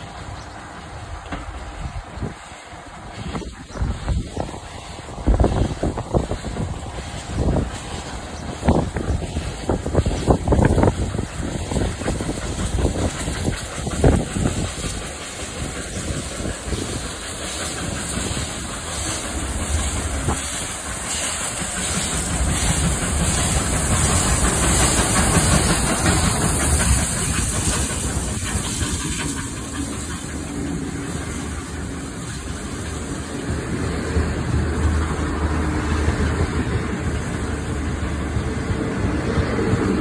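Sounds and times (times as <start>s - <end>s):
steam hissing: 0.0s - 40.0s
steam locomotive running: 0.0s - 40.0s.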